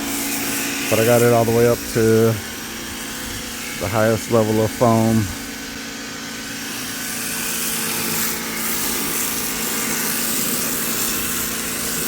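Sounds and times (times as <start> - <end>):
foam spray hissing: 0.0 - 12.0
pressure washer motor hum: 0.0 - 12.0.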